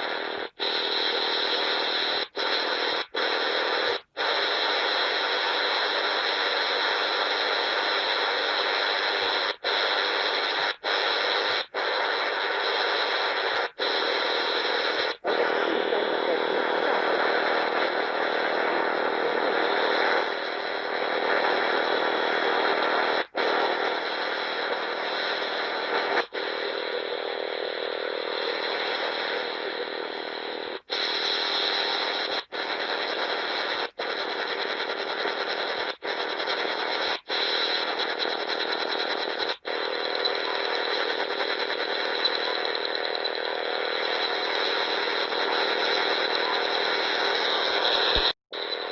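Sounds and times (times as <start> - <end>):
rasping radio noise signal: 0.0 - 48.9.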